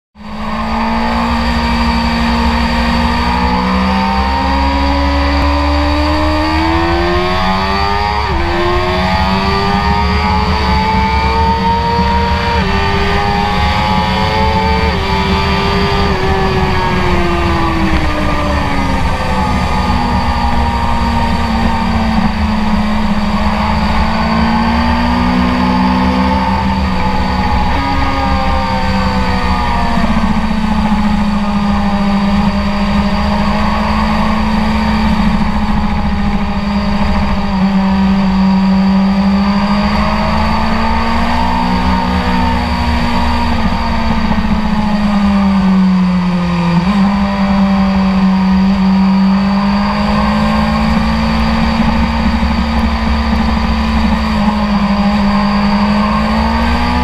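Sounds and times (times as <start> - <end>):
motorcycle engine revving: 0.2 - 57.0.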